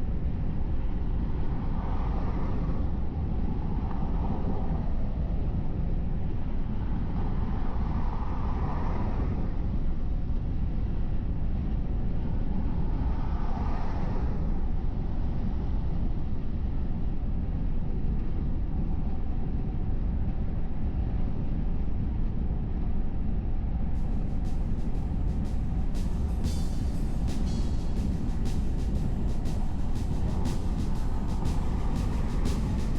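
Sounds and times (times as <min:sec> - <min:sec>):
car road and engine rumble: 0:00.0 - 0:32.9.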